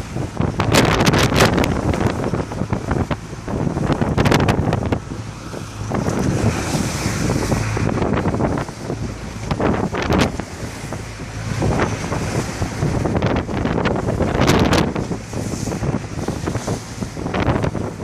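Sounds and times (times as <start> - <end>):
big waves splashing: 0.0 - 18.0
wind buffeting microphone: 0.0 - 18.0.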